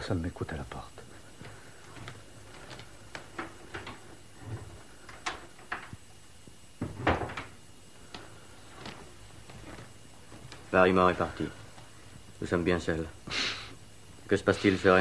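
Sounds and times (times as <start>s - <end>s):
footsteps crossing a room: 0.0s - 15.0s.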